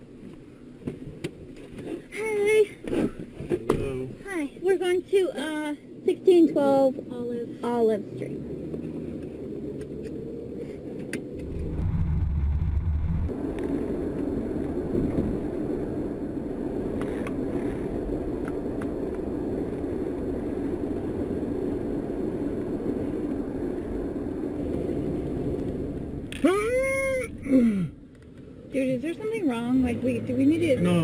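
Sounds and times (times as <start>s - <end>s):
road and engine hum in car: 0.0s - 31.0s
low rumble: 3.2s - 31.0s.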